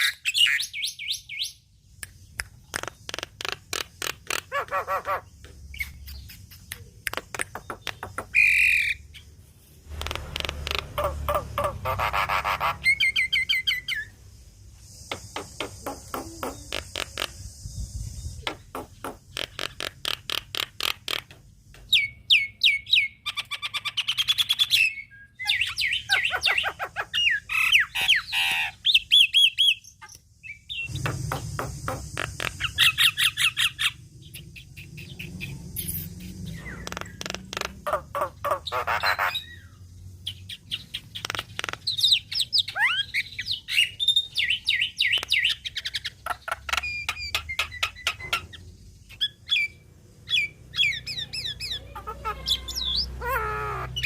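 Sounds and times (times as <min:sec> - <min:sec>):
myna bird singing: 0:00.0 - 0:54.0.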